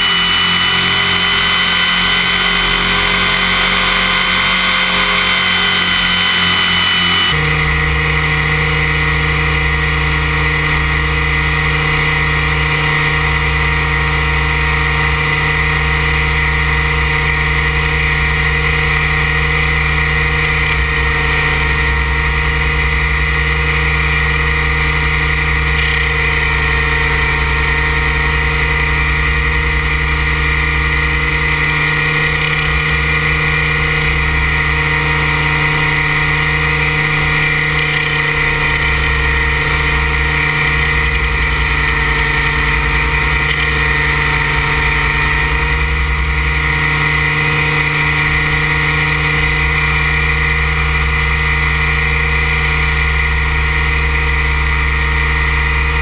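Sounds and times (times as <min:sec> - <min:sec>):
rc helicopter high whine: 0:00.0 - 0:56.0.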